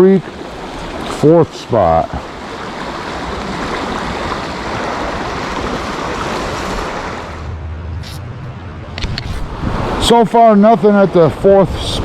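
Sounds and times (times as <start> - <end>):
creek water rushing: 0.0 - 11.9.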